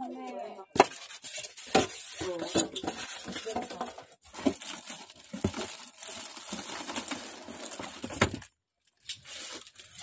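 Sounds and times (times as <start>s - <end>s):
plastic bag crinkling: 1.0s - 10.0s.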